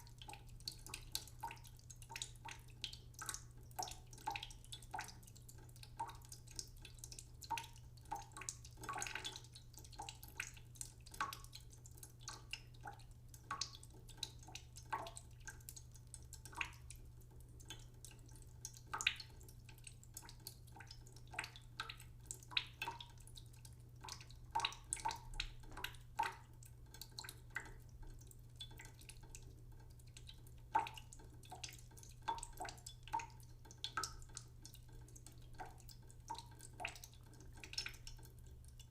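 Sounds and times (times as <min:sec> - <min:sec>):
water dripping: 0:00.0 - 0:38.9.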